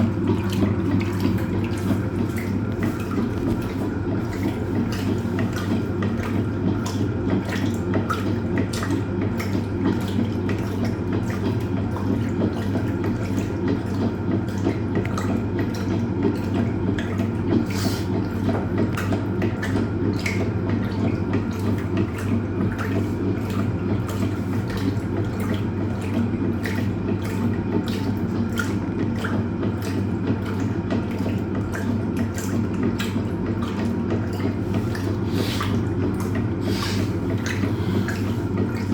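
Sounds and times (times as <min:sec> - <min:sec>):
washing machine motor hum: 0:00.0 - 0:38.9
water sloshing and splashing: 0:00.0 - 0:38.9.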